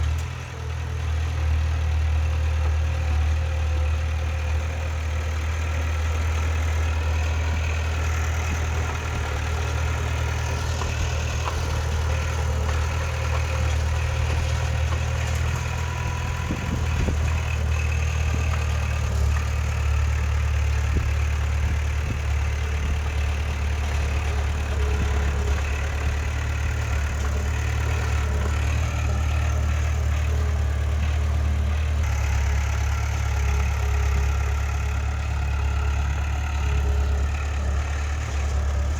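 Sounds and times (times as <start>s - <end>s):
heavy diesel machinery droning: 0.0s - 38.9s.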